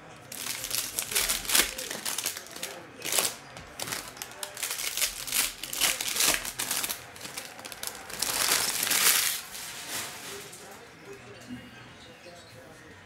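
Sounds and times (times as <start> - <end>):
foil wrappers crinkling: 0.2 - 10.8.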